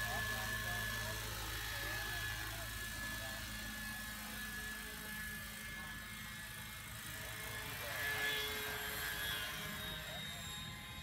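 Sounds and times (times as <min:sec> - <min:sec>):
model helicopter rotor and engine drone: 0:00.0 - 0:11.0.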